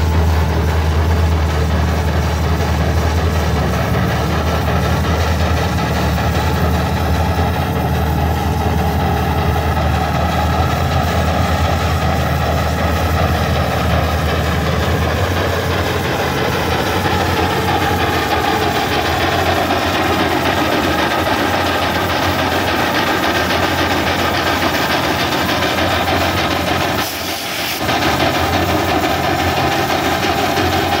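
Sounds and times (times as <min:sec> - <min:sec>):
low steady drone: 0:00.0 - 0:31.0
steam engine exhaust chuffing: 0:00.0 - 0:31.0.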